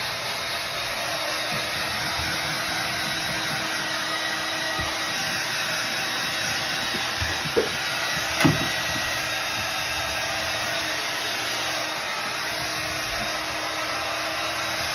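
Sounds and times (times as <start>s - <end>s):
hair dryer running: 0.0s - 14.9s.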